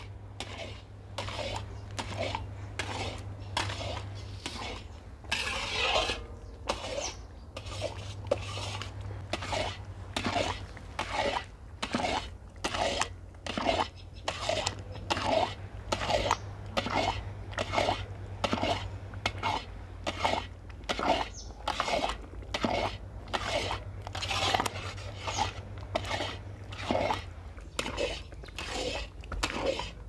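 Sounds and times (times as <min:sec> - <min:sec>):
metal scraper scraping a pan: 0:00.0 - 0:30.0
thick mixture bubbling: 0:00.0 - 0:30.0.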